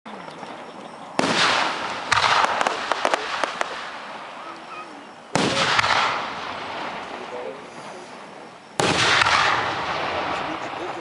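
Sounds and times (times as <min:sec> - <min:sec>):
firework booms: 0:01.2 - 0:04.4, 0:05.3 - 0:11.0
sharp firework crackles: 0:01.2 - 0:11.0.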